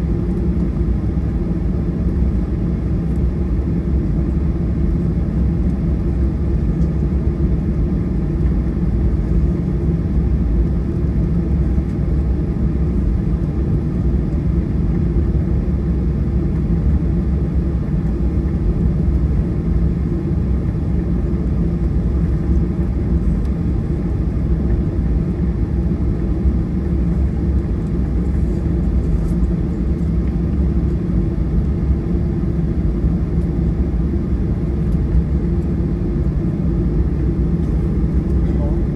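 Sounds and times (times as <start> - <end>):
jet engine rumble inside cabin: 0.0 - 38.9.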